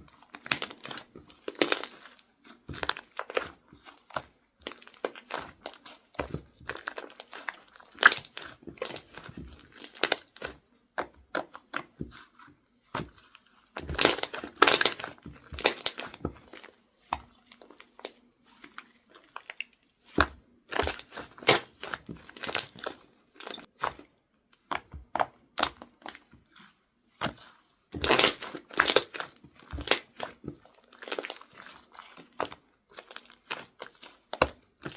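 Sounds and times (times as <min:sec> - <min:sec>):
slime squished by hand: 0:00.3 - 0:34.9.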